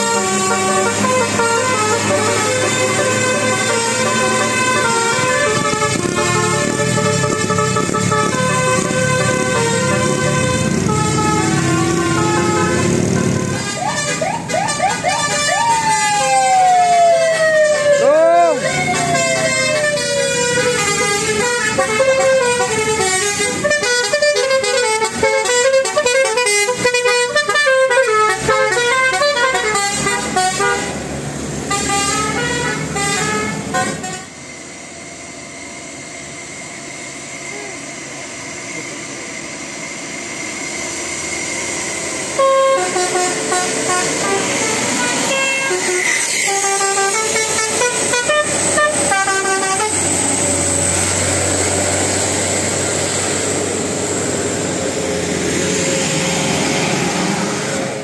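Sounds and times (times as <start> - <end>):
bus air horns playing melody: 0.0 - 34.4, 42.3 - 56.1.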